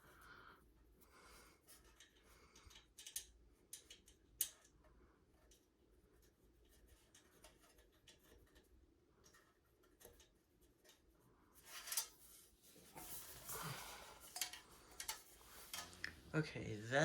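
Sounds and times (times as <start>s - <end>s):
small metal parts clicking and scraping: 1.3s - 16.3s.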